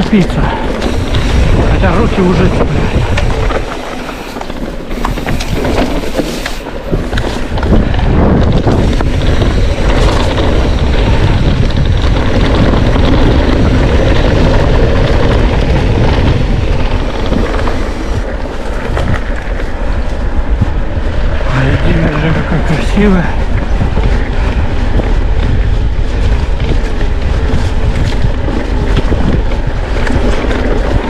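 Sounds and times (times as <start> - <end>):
bike rattles and clicks: 0.0 - 31.0
tyres rumbling over ground: 0.0 - 31.0
wind rushing over microphone: 0.0 - 31.0.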